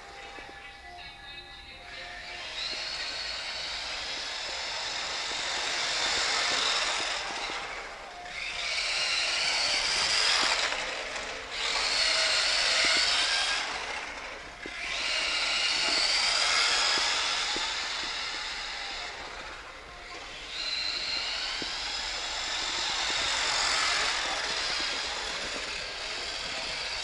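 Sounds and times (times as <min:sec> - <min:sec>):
toy car electric motor whining: 0:00.0 - 0:27.0.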